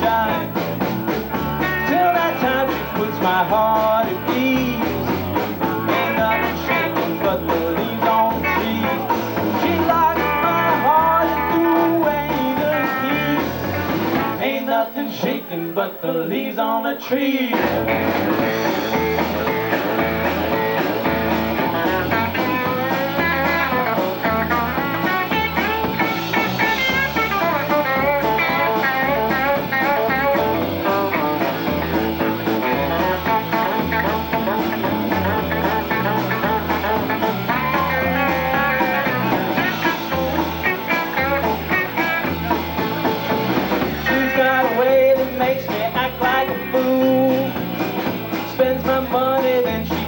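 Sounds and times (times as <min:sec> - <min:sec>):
lead guitar: 0:00.0 - 0:14.4, 0:17.5 - 0:50.0
stepping bass line: 0:00.0 - 0:14.4, 0:17.6 - 0:50.0.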